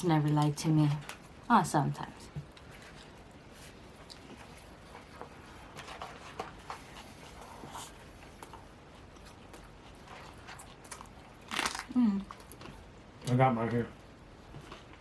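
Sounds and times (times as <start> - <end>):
soft chewing: 0.3 - 15.0.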